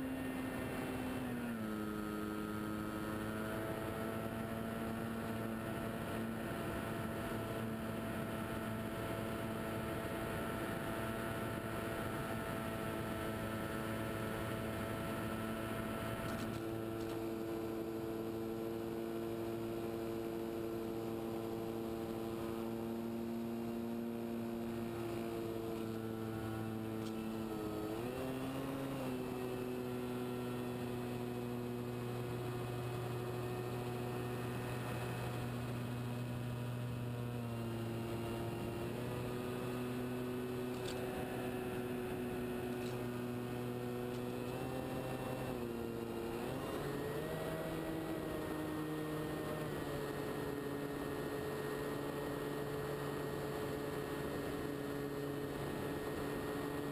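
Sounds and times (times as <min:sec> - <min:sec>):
model airplane motor running: 0:00.0 - 0:56.9.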